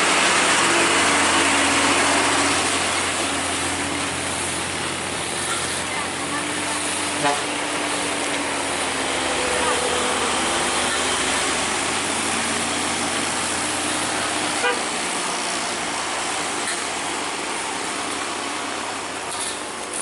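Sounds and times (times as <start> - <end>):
road traffic roar: 0.0 - 20.0.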